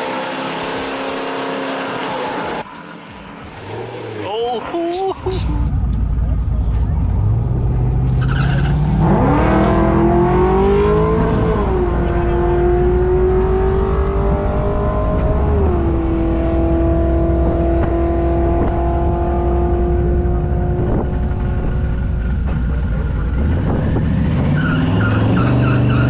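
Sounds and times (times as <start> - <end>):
car engine at full throttle: 0.0 - 26.0.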